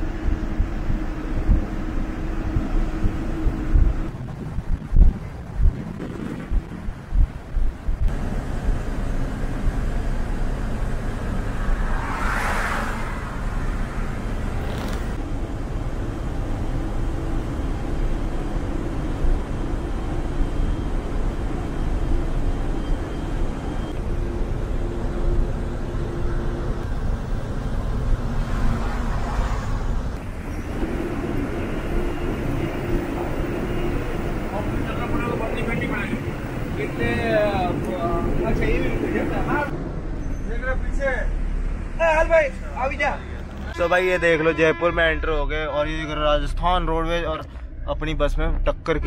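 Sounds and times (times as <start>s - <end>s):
bus engine and tyre rumble: 0.0s - 49.0s.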